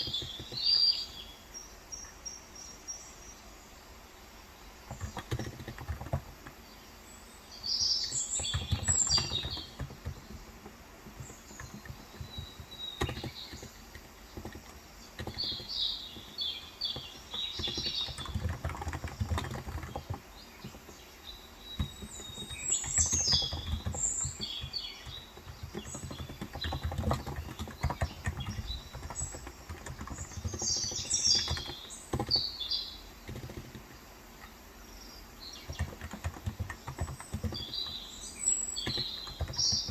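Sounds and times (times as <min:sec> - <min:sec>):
keyboard typing: 0:00.0 - 0:00.9, 0:04.8 - 0:06.6, 0:08.0 - 0:34.6, 0:35.4 - 0:39.9
birds chirping: 0:00.0 - 0:39.9.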